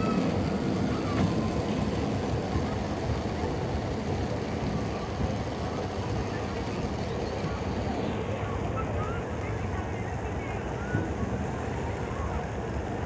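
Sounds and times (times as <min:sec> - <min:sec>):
funicular rumbling on rails: 0:00.0 - 0:13.0.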